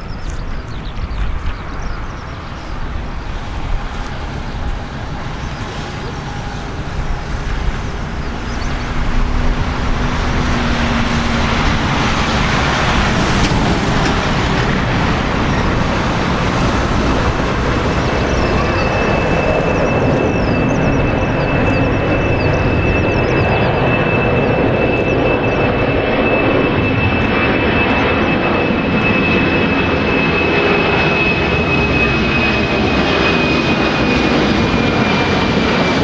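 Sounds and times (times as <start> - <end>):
jet engines running: 0.0 - 36.0
wind buffeting microphone: 0.0 - 36.0.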